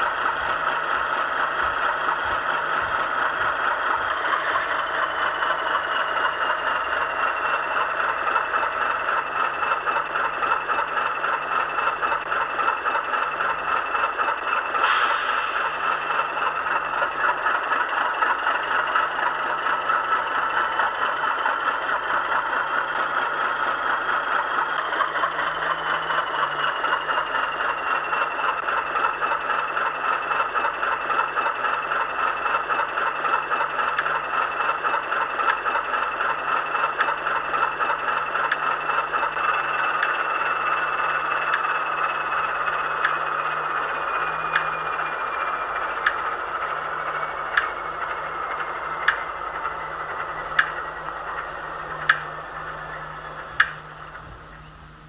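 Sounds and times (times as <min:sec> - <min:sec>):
diesel engine sound from speaker: 0:00.0 - 0:55.0.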